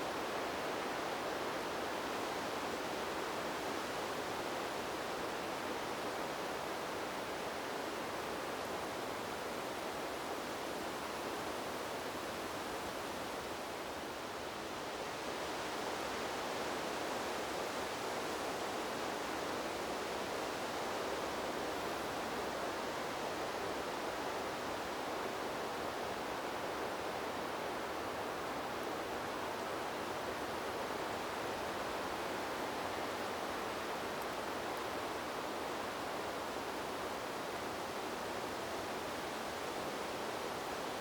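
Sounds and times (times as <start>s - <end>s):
wind rustling leaves: 0.0s - 41.0s.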